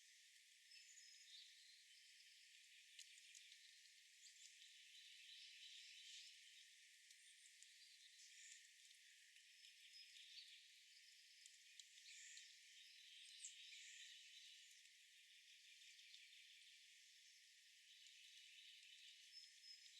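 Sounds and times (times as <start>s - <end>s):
small ticks: 0.0s - 19.9s.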